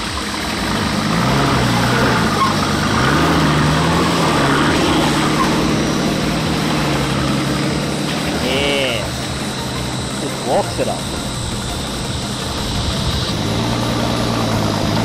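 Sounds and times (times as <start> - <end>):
off-road vehicle engine revving under load: 0.0 - 15.0.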